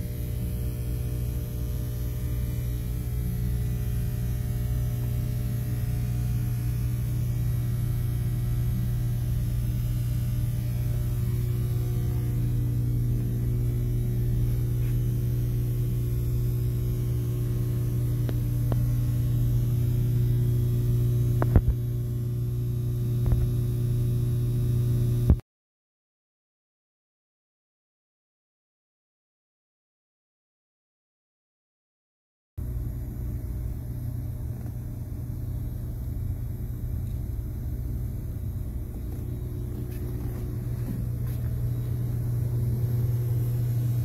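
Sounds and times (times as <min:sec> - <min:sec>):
engine-room machinery humming: 0:00.0 - 0:25.4, 0:32.6 - 0:44.0.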